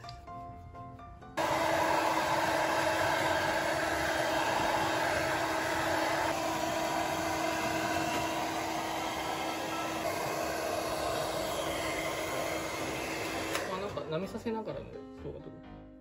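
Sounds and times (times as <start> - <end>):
hair dryer blowing: 1.4 - 14.2.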